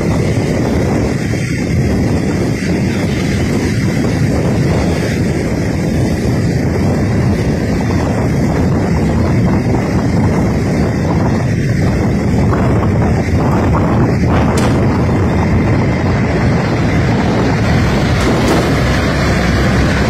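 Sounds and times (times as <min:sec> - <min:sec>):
flood water rushing: 0:00.0 - 0:20.0
wind buffeting microphone: 0:00.0 - 0:20.0.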